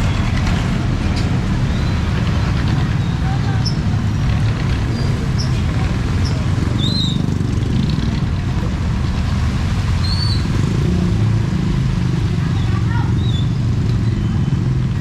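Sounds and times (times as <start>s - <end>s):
street noise: 0.0s - 15.0s
vehicle engine rumbling: 0.0s - 15.0s.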